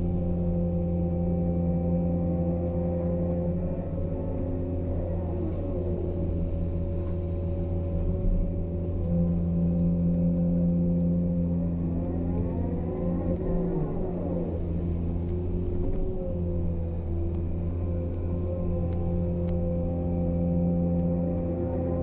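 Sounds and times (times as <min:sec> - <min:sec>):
rising and falling whine: 0:00.0 - 0:22.0.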